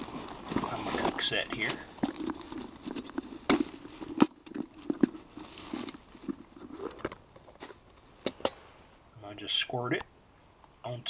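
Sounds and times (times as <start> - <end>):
rustling: 0.0 - 8.9.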